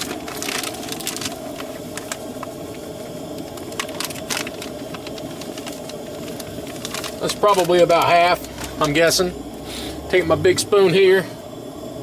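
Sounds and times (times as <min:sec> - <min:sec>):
camp stove burners hissing: 0:00.0 - 0:12.0.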